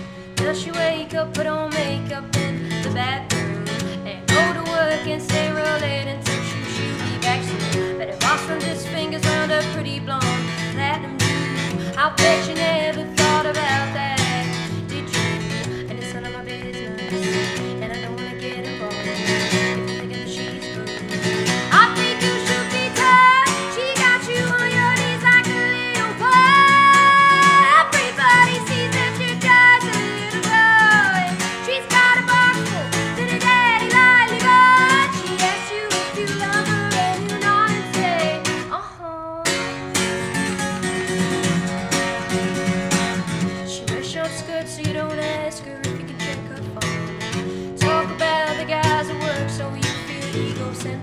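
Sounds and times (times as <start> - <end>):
woman singing: 0.0 - 39.9, 42.6 - 51.0
acoustic guitar strumming: 0.0 - 51.0.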